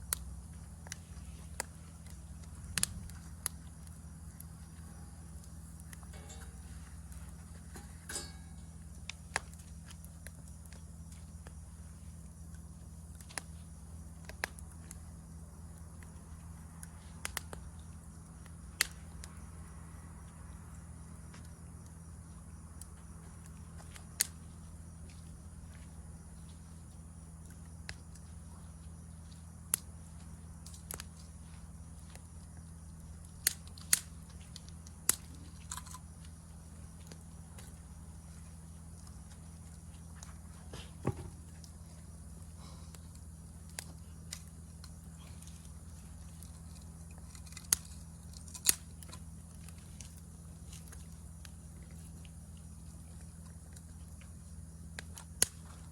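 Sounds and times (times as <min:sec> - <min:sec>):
campfire crackling and popping: 0:00.0 - 0:55.9
high insect drone: 0:00.0 - 0:55.9.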